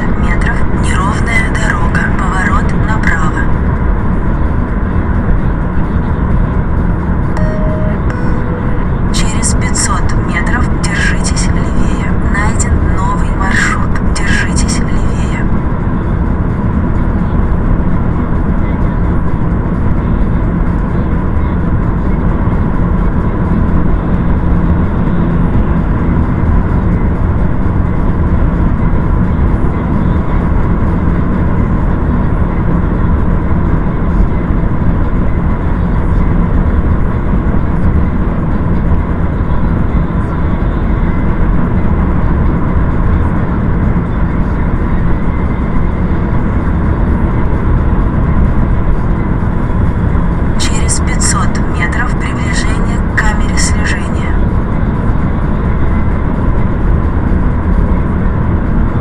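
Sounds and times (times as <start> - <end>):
car engine and tyre rumble: 0.0 - 7.4, 8.1 - 59.0.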